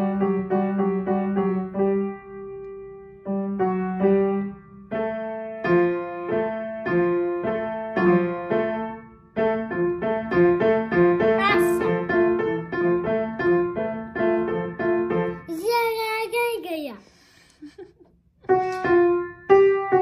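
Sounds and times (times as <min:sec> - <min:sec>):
child playing piano notes: 0:00.0 - 0:15.6, 0:18.4 - 0:20.0.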